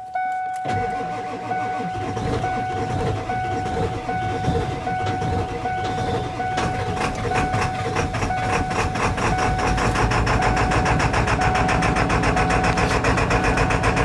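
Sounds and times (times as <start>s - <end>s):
diesel engine cranking and starting: 0.0s - 14.0s.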